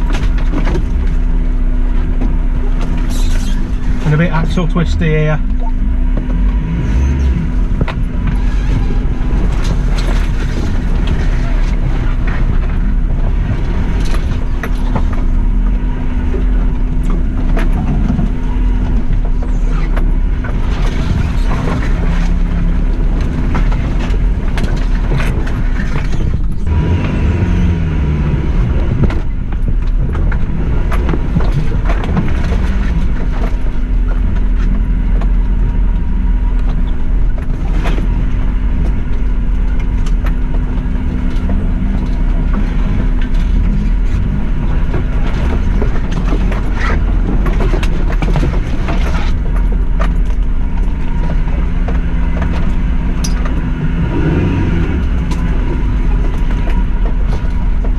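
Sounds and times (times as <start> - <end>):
car engine running: 0.0 - 57.9
suspension knocking and rattling: 0.0 - 57.9.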